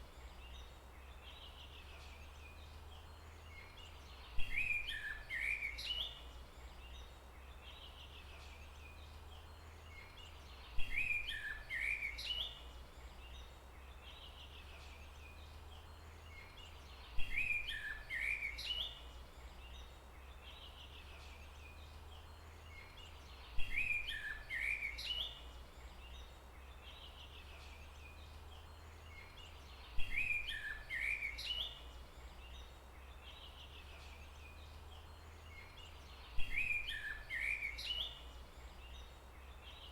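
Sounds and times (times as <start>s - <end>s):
faint forest background: 0.0s - 39.9s
songbird singing: 0.0s - 39.9s.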